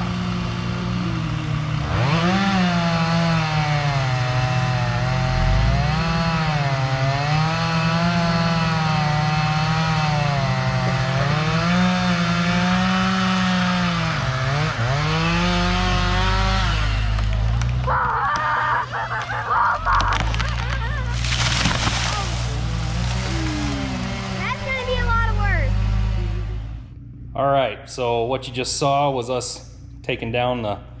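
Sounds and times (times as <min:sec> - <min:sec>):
chainsaw cutting wood: 0:00.0 - 0:26.8.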